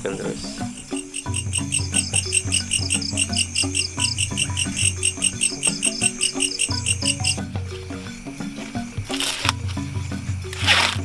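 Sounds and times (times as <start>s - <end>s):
background music low melody: 0.0s - 11.0s
crickets chirping: 0.0s - 11.0s.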